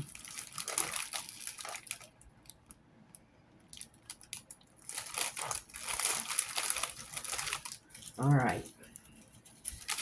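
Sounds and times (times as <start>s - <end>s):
plastic bags crinkling: 0.0s - 2.8s, 3.6s - 10.0s.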